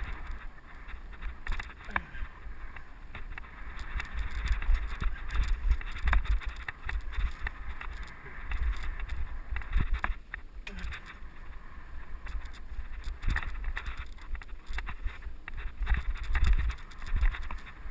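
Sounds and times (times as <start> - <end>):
bike clicks and rattles: 0.0 - 17.9
wind rumbling on microphone: 0.0 - 17.9.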